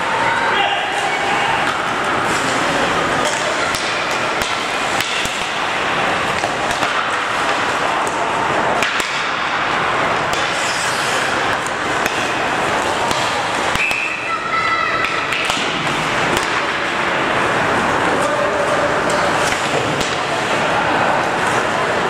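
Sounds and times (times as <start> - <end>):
voices: 0.0 - 16.6, 17.2 - 22.0
hockey sticks clacking on puck: 1.0 - 14.3, 14.9 - 20.6
skating on ice: 1.0 - 22.0.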